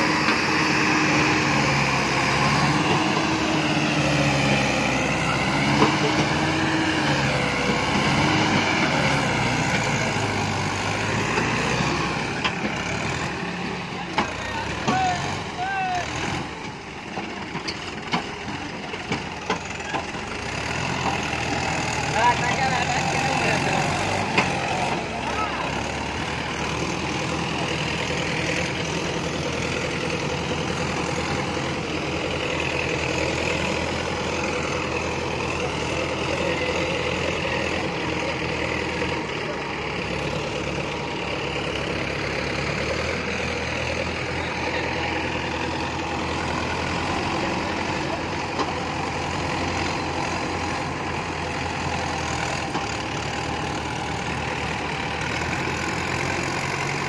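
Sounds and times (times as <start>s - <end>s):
diesel tractor engines under load: 0.0s - 57.0s.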